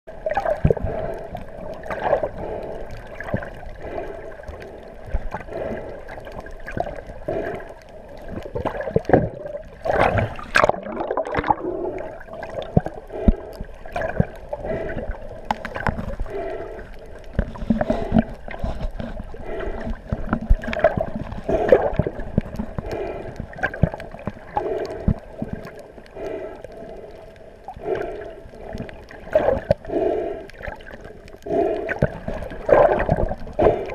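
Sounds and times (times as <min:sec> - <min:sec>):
water gurgling and sloshing: 0:00.1 - 0:33.9.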